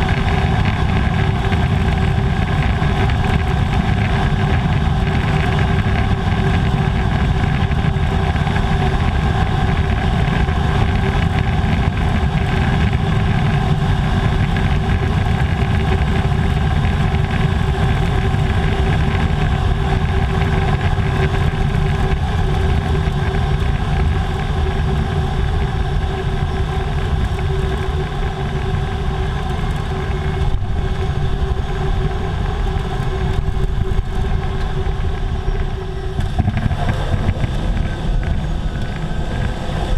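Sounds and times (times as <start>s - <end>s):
turboprop engine droning: 0.0s - 39.9s.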